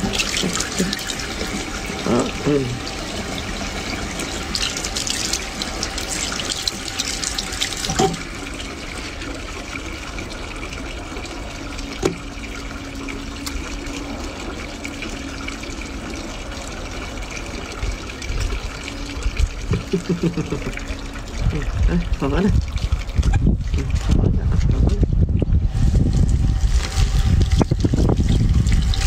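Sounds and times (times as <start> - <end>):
water splashing: 0.0 - 25.0
tap water running into sink: 0.0 - 29.0.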